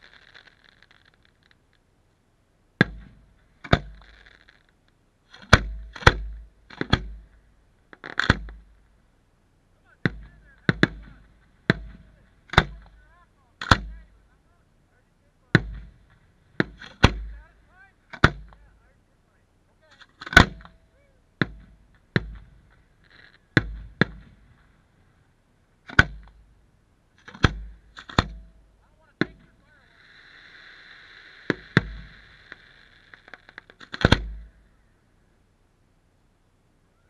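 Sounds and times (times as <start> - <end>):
fireworks booming: 0.0 - 1.8, 2.8 - 4.7, 5.3 - 9.0, 9.8 - 19.0, 19.8 - 26.6, 27.2 - 34.9.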